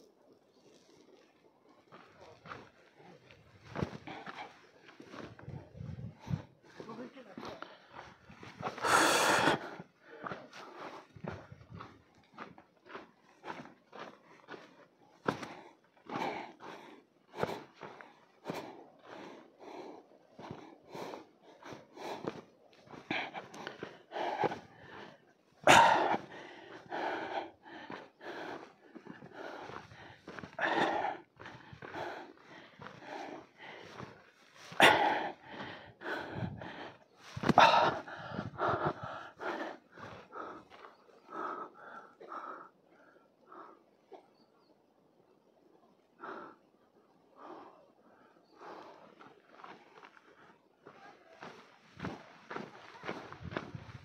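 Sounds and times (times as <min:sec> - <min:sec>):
footsteps on trail: 0:00.0 - 0:43.7, 0:48.2 - 0:54.0
person panting: 0:01.9 - 0:44.2, 0:46.1 - 0:54.0
hard breathing: 0:01.9 - 0:44.3, 0:46.1 - 0:54.0.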